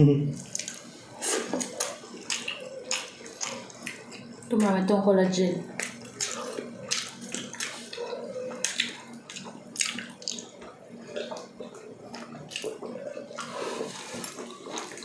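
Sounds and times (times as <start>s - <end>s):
wet chewing and lip-smacking: 0.4s - 4.8s, 5.7s - 15.0s.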